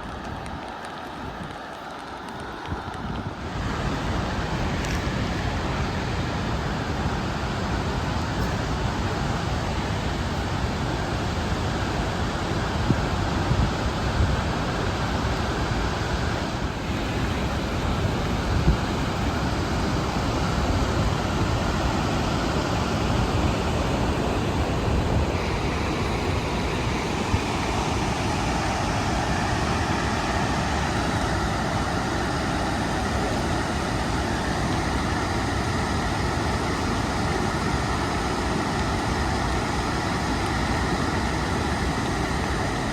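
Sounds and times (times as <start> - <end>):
large waterfall rushing: 0.0 - 42.9.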